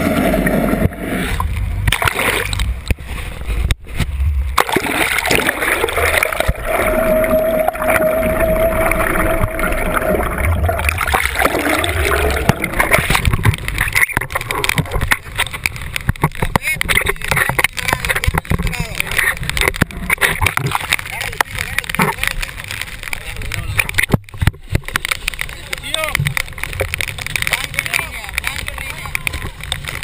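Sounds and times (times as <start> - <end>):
boat engine hum underwater: 0.0 - 30.0
water rushing and gurgling: 0.0 - 30.0.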